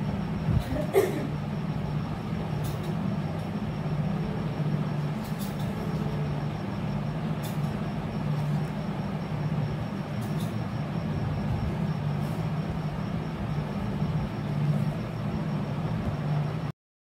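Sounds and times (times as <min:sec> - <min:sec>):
low mechanical hum: 0:00.0 - 0:16.7.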